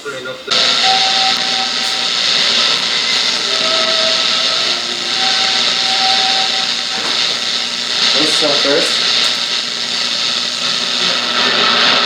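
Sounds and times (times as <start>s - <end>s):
radio static hiss: 0.0s - 12.0s
faint whistling tones: 0.5s - 10.2s.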